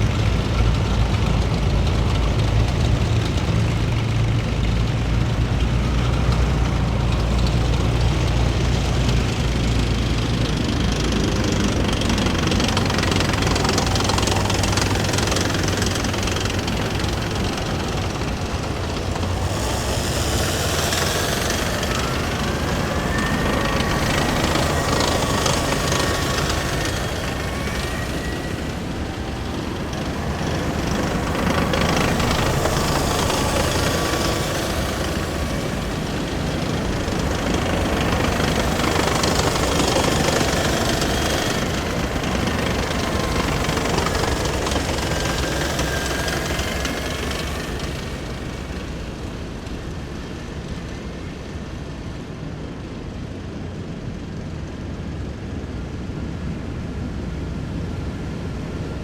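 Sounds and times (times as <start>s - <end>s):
heavy military vehicles driving past: 0.0s - 59.0s
thin whining tones: 2.0s - 50.6s.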